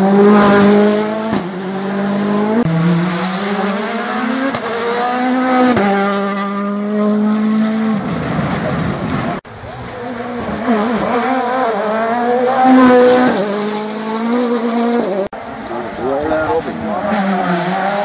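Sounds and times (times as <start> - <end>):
rally car engine at high revs: 0.0 - 18.0.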